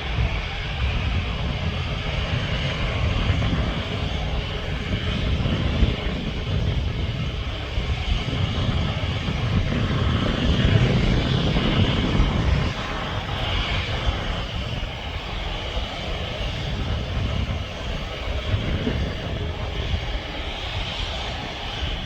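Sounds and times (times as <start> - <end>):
airplane engines running: 0.0 - 22.0.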